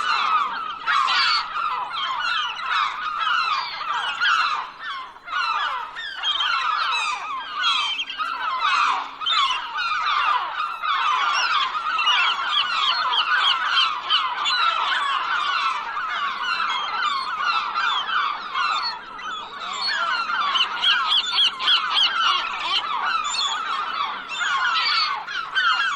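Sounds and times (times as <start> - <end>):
gulls calling: 0.0 - 25.9.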